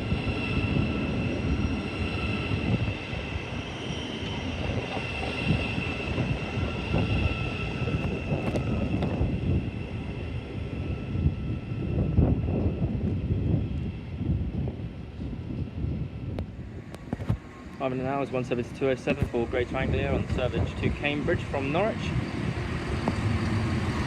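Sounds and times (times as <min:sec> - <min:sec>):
train rumble: 0:00.0 - 0:24.0
train whine: 0:00.0 - 0:24.0.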